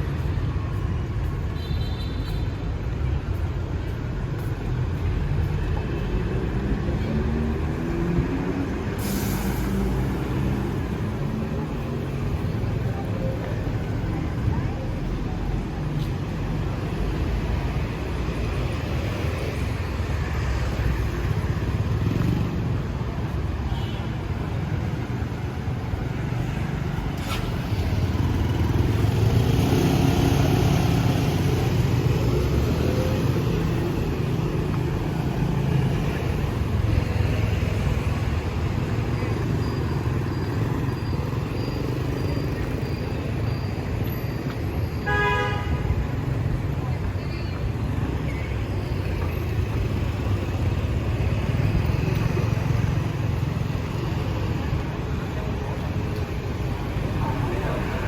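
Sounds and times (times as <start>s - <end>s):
motorbike traffic passing: 0.0s - 58.0s.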